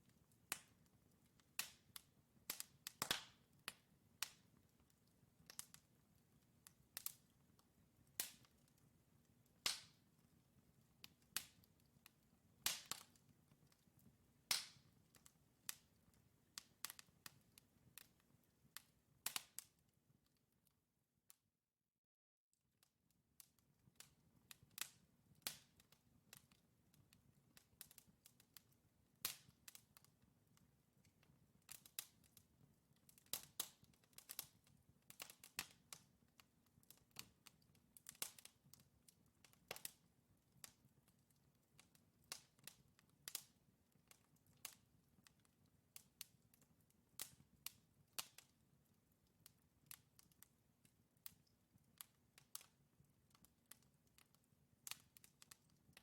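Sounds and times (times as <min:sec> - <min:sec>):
wood fire crackling and popping: 0:00.0 - 0:20.5, 0:23.4 - 0:56.0.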